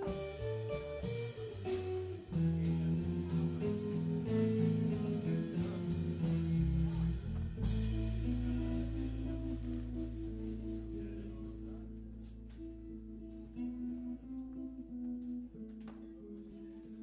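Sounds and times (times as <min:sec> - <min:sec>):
deep low held note: 0:00.0 - 0:14.5
jazz trio playing: 0:00.0 - 0:17.0.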